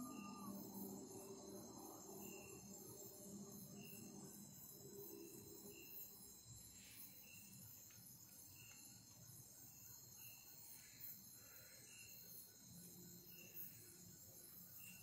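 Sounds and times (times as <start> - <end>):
crickets trilling: 0.0 - 15.0
short high insect chirp: 0.0 - 15.0.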